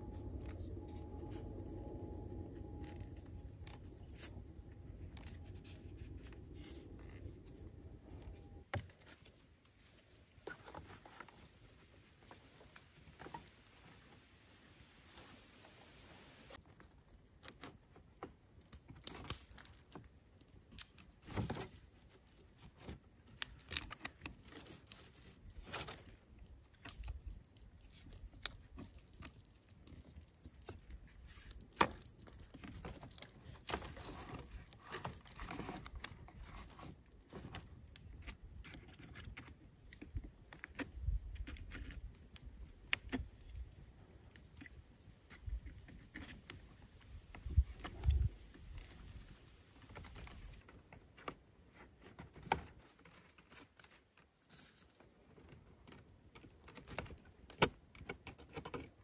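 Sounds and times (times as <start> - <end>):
wooden hoop clicking and creaking: 0.0 - 14.0, 16.5 - 59.0.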